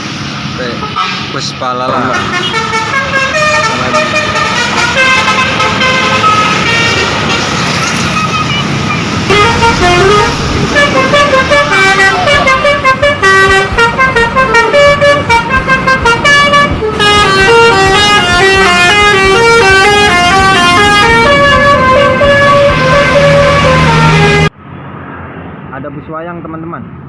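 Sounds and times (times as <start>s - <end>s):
musical bus air horn melody: 0.8s - 1.3s, 2.1s - 7.5s, 8.1s - 24.5s.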